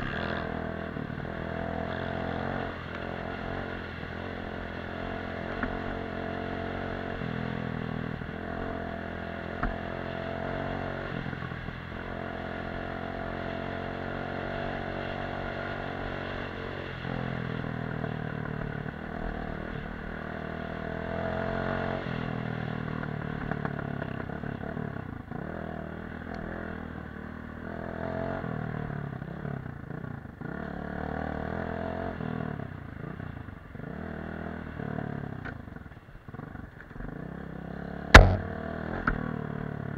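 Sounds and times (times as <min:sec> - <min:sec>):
off-road motorcycle engine: 0:00.0 - 0:39.9.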